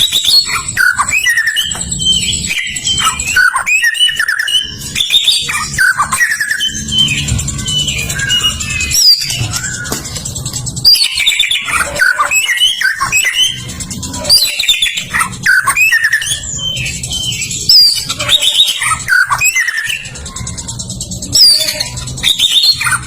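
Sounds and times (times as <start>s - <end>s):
songbird whistles and trills: 0.0s - 23.0s.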